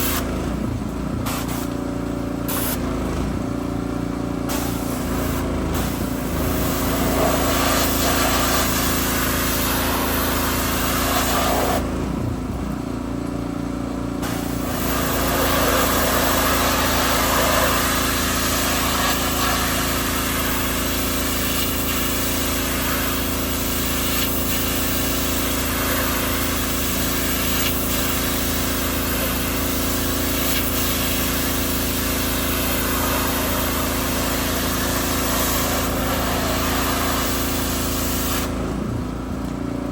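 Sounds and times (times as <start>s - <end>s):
pressure washer engine running: 0.0s - 39.9s
water spray hissing: 1.2s - 1.8s, 2.5s - 2.8s, 4.5s - 11.9s, 14.2s - 38.6s.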